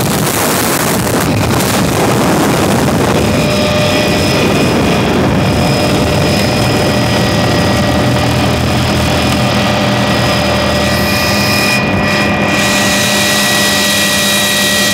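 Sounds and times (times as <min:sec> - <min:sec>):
helicopter engine and rotor drone: 0:00.0 - 0:14.9
thin high whine: 0:00.0 - 0:14.9.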